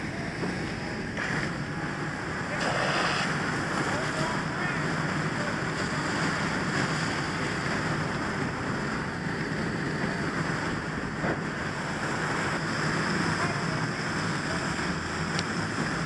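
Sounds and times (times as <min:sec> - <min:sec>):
hose water spraying: 0:01.2 - 0:16.0.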